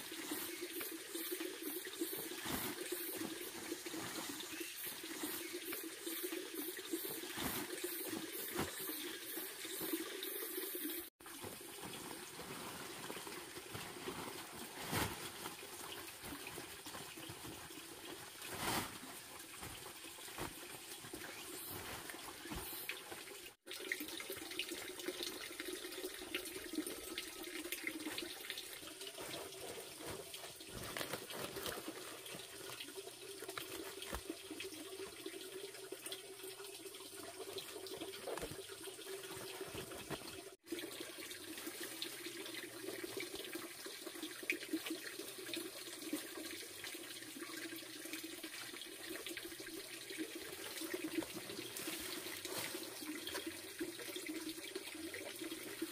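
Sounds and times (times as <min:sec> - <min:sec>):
hose water splashing into basin: 0:00.0 - 0:55.9.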